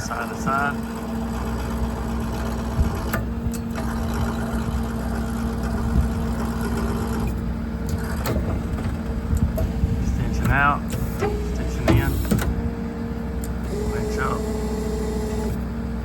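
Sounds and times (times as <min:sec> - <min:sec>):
constant hum: 0:00.0 - 0:16.0
crane drive whirring whine: 0:00.0 - 0:16.0
engine drone: 0:00.0 - 0:16.0.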